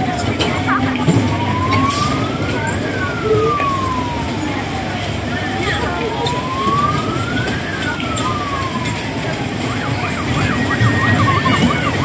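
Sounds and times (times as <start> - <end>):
loud fairground din: 0.0 - 12.0
electronic siren wailing: 1.2 - 12.0.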